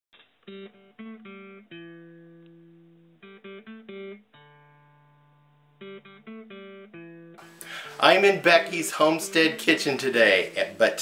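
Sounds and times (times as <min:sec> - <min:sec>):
plucked guitar: 0:00.2 - 0:11.0.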